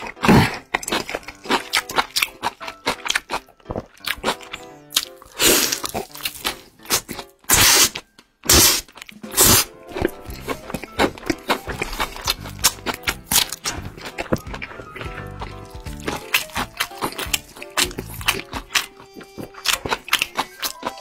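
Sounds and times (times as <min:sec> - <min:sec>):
background music: 0:00.0 - 0:21.0
chewing meat: 0:00.0 - 0:21.0
wet smacking: 0:00.0 - 0:21.0.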